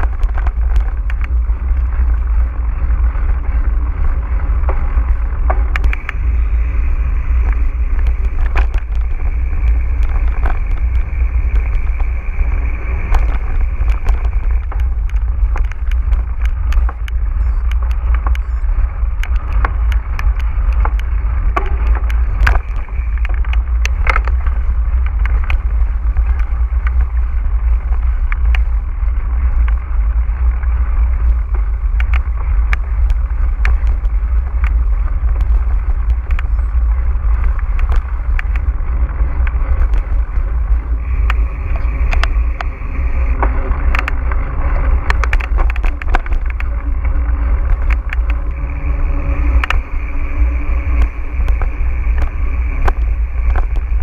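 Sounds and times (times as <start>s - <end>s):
bike clicks and rattles: 0.0s - 54.0s
bike rumbling over rough ground: 0.0s - 54.0s.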